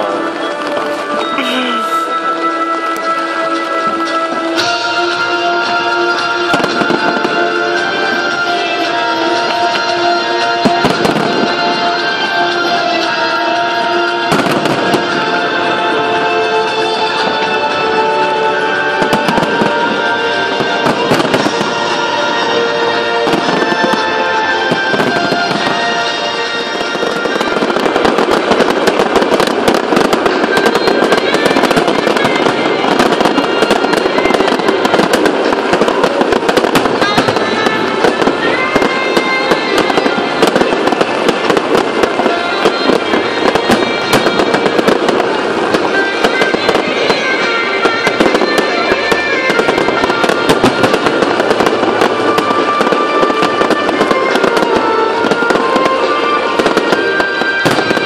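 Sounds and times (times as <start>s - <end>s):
fireworks bangs and crackle: 0.0s - 58.0s
music playing: 0.0s - 58.0s.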